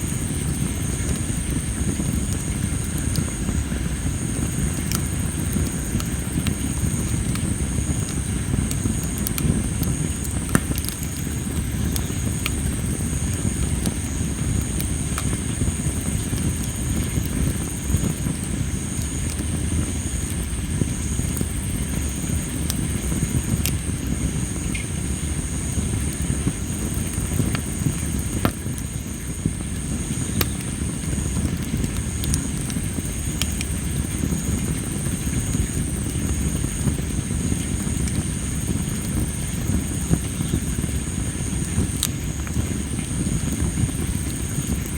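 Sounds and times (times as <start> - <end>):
campfire crackling and popping: 0.0 - 44.9
insects trilling: 0.0 - 44.9.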